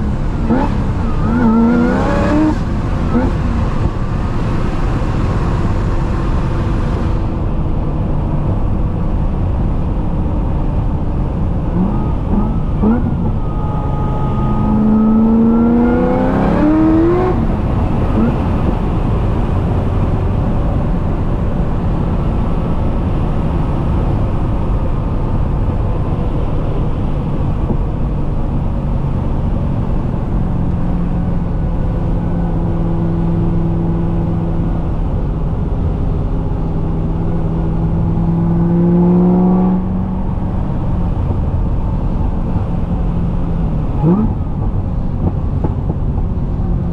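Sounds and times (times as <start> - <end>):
car engine accelerating: 0.0 - 46.9
road and tyre noise: 0.0 - 46.9.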